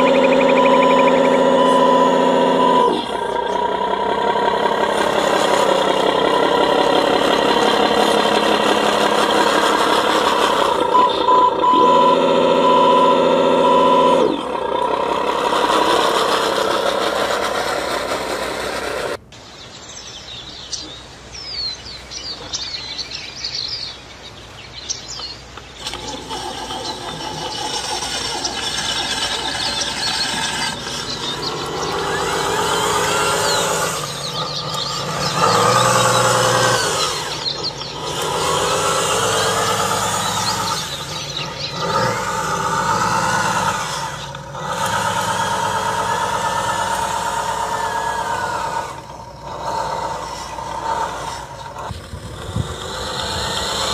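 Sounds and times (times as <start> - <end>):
radio-controlled trucks running: 0.0 - 19.4, 22.1 - 53.9
birds chirping: 0.0 - 53.9.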